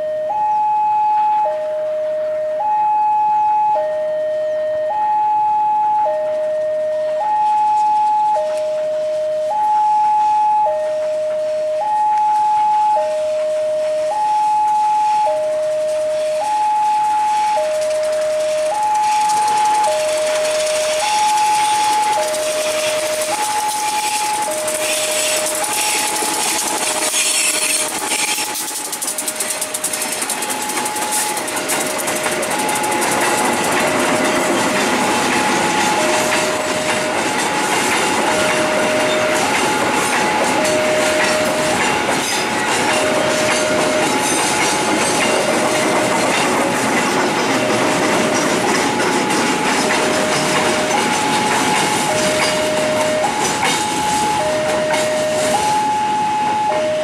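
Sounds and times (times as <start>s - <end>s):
level-crossing two-tone alarm: 0.0s - 57.0s
train wheels clacking on rails: 8.2s - 10.0s, 10.7s - 57.0s.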